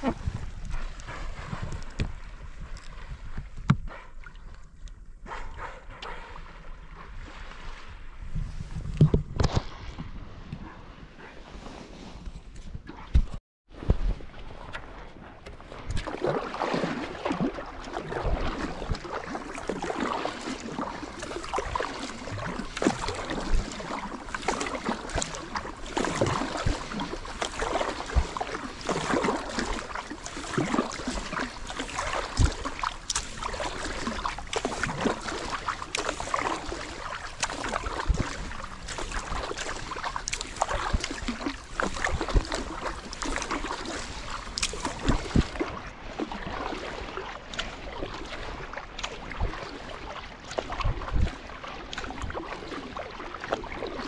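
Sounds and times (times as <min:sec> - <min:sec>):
paddle splashing: 0:00.0 - 0:54.0
water rushing along hull: 0:00.0 - 0:54.0.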